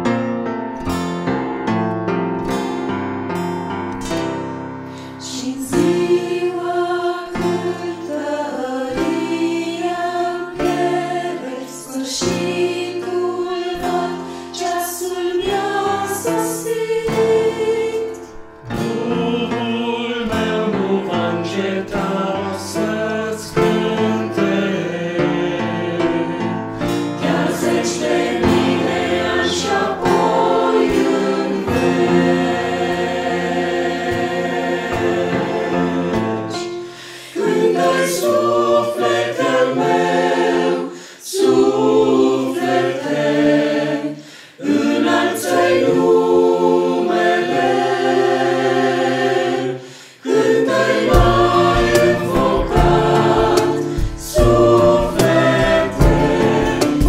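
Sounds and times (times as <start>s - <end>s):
mixed choir singing a hymn: 4.9s - 57.0s.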